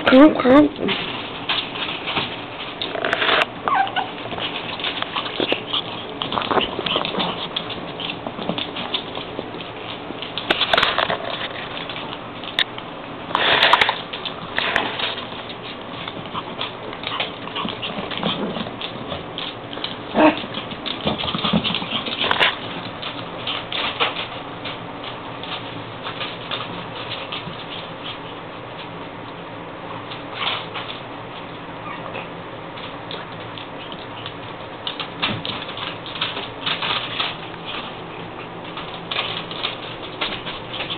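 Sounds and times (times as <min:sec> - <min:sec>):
animals scuffling and pattering: 0:00.0 - 0:40.9.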